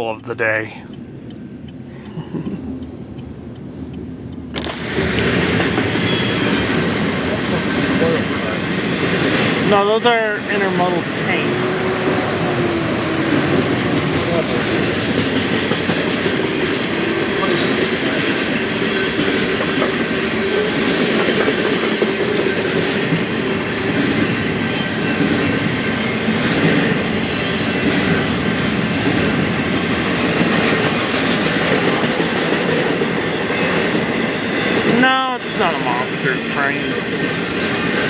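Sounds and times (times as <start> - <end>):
freight train wheels rumbling on rails: 0.6 - 38.0.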